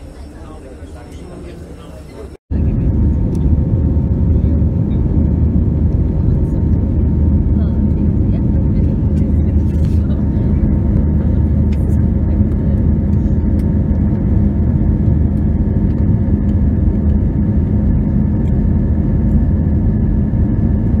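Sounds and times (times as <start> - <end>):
faint steady whine: 0.0 - 21.0
jet engines droning: 0.0 - 21.0
rushing air: 2.5 - 21.0.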